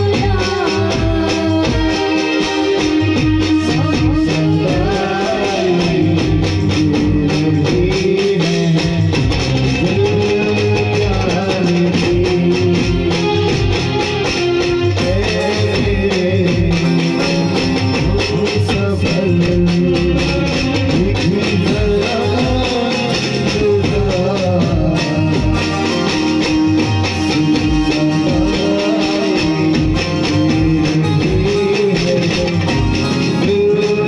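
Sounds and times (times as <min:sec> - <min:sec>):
held bass line: 0:00.0 - 0:34.0
plucked guitar: 0:00.0 - 0:34.0
steady beat: 0:00.0 - 0:34.0.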